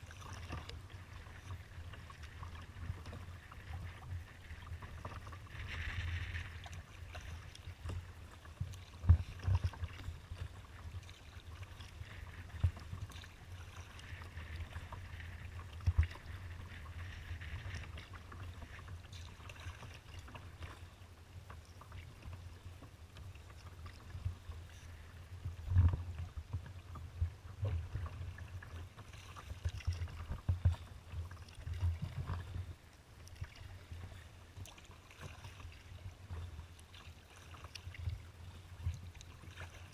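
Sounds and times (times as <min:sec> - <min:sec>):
water lapping against kayak hull: 0:00.0 - 0:39.9.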